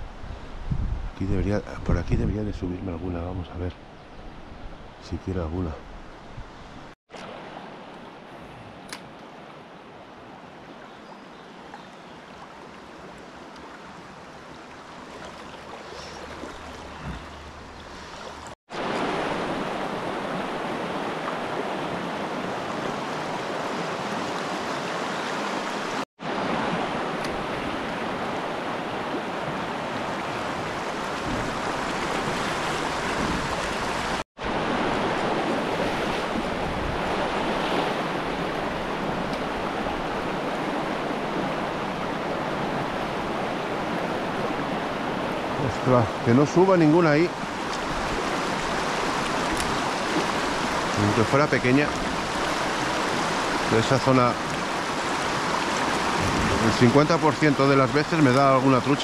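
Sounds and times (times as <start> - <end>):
river water rushing: 6.6 - 59.0.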